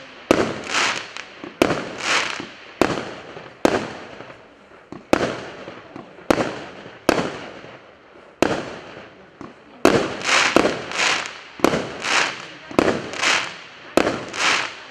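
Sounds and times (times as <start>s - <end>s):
firework bangs with echo: 0.0s - 7.8s, 8.4s - 14.9s.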